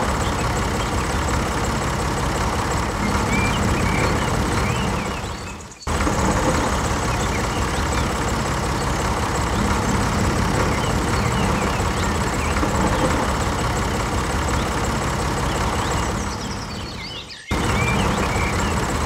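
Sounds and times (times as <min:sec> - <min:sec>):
engine running with low rumble: 0:00.0 - 0:19.0.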